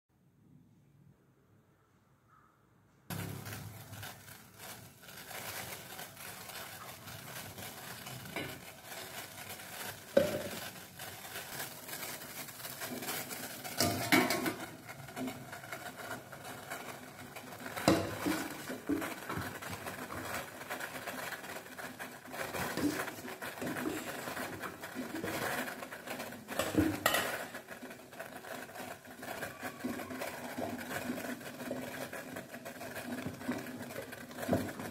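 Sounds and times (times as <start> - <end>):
boiling water hiss: 3.1 - 34.9.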